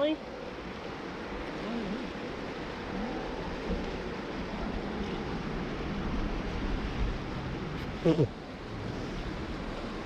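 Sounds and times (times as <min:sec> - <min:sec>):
creek water rushing: 0:00.0 - 0:10.0
wind rumbling on microphone: 0:00.0 - 0:10.0.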